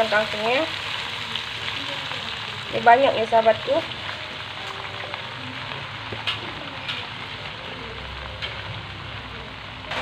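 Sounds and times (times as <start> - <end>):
leaves sizzling in hot oil: 0.0 - 10.0.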